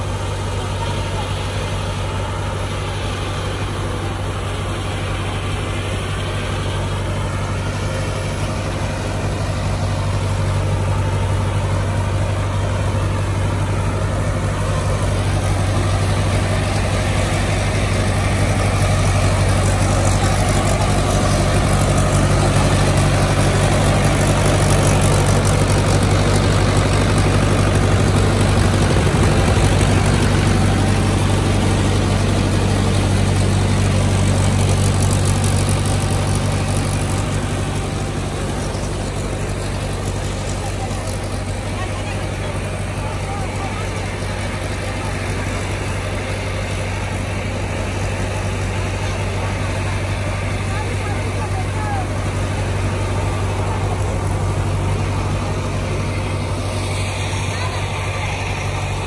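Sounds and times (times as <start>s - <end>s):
thresher drum whirring: 0.0s - 59.0s
tractor diesel engine running: 0.0s - 59.0s.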